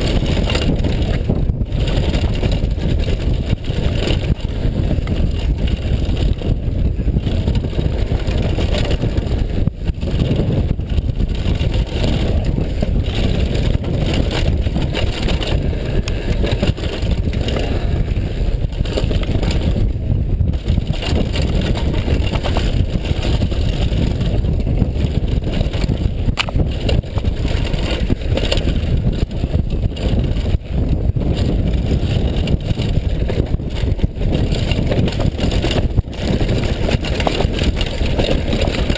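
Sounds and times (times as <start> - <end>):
bike knocks and rattles: 0.0 - 38.9
tyres rumbling on dirt: 0.0 - 38.9
wind on microphone: 0.0 - 38.9.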